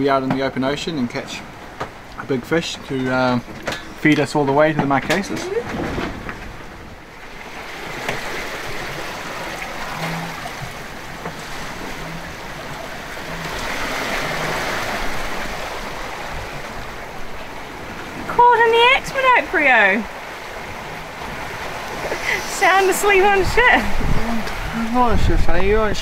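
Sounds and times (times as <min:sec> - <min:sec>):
wind and sea rushing: 0:00.0 - 0:26.0.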